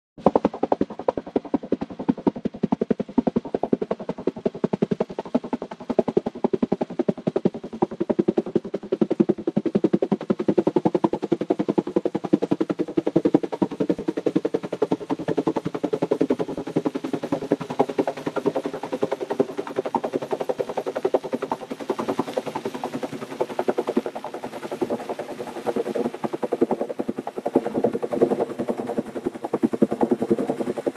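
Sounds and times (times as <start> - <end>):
helicopter rotor beating: 0.2 - 30.9.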